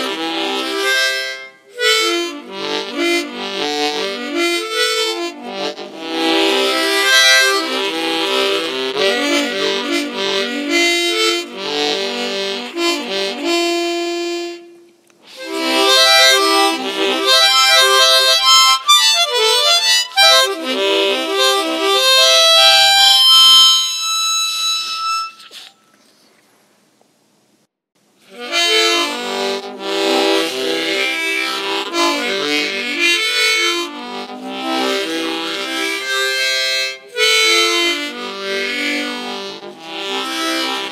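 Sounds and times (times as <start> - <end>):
harmonica playing: 0.0 - 25.9, 28.2 - 40.9.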